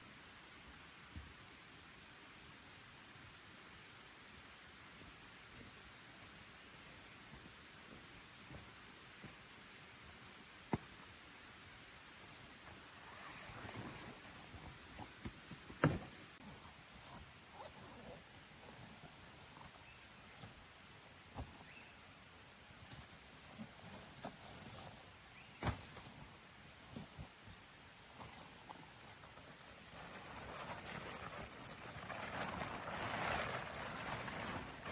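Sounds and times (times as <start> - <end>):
insects chirring: 0.0 - 34.9.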